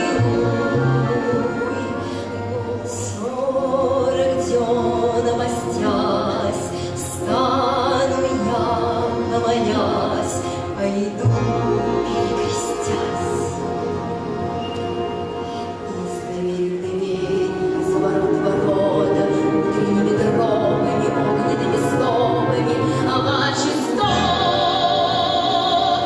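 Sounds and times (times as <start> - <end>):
woman singing operatically: 0.0 - 13.7, 15.6 - 26.0
orchestra: 0.0 - 26.0.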